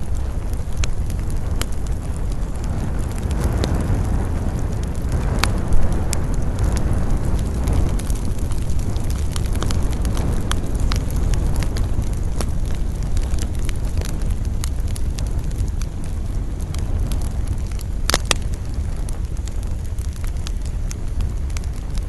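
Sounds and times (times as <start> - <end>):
campfire crackling: 0.0 - 22.0
fire popping and snapping: 0.0 - 22.0
wind rumble: 0.0 - 22.0.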